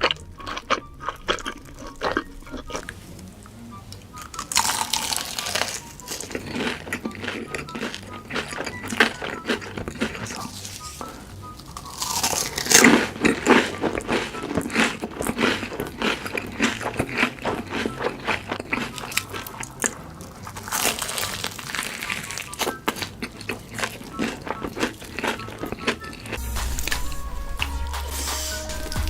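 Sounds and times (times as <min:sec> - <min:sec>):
chewing crunchy food: 0:00.0 - 0:03.3, 0:03.9 - 0:27.6.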